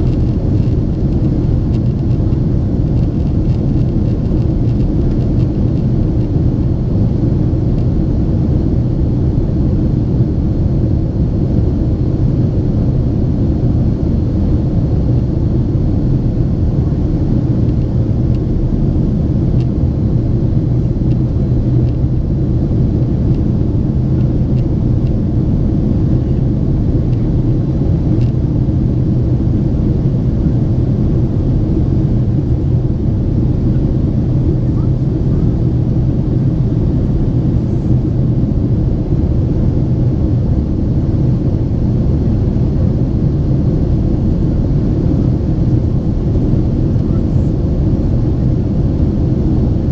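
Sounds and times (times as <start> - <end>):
jet engine cabin rumble: 0.0 - 49.9.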